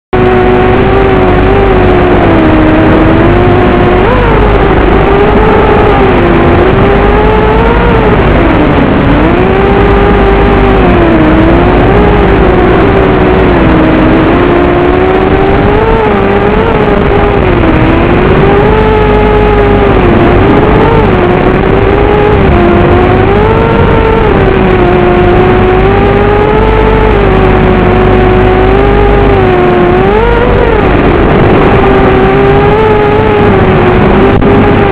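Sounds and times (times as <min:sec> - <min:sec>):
quadcopter motors buzzing: 0:00.2 - 0:34.9.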